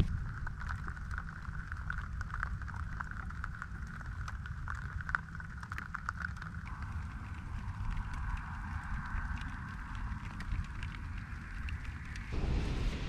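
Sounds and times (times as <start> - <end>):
rain pattering on a jacket: 0.0 - 13.0
steady low rumble: 0.0 - 13.0.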